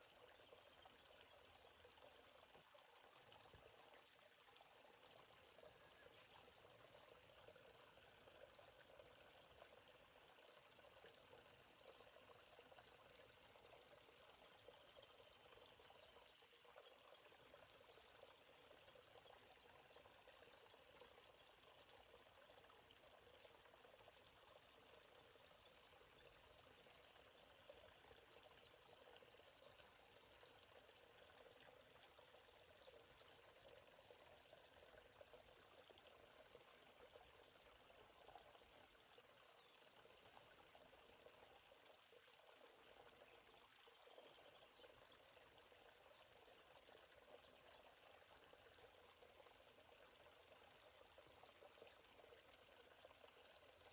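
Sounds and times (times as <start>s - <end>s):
high-pitched insect chorus: 0.0s - 53.9s
stream flowing: 0.0s - 53.9s.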